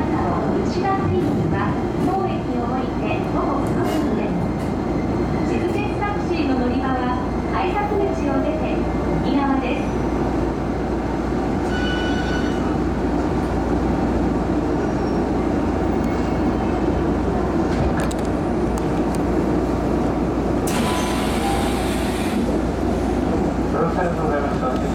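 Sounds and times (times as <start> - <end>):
train interior rumble and hum: 0.0 - 24.9.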